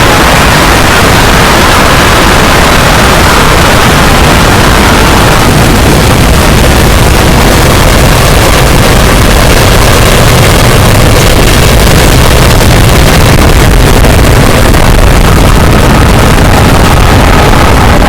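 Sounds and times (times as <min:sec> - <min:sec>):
deep rumble: 0:00.0 - 0:18.0
loud distorted noise: 0:00.0 - 0:18.0.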